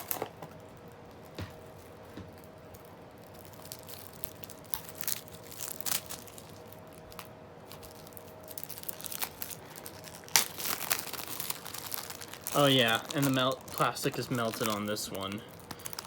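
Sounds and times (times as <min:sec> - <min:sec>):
plastic shrink wrap crinkling: 0:00.0 - 0:16.0.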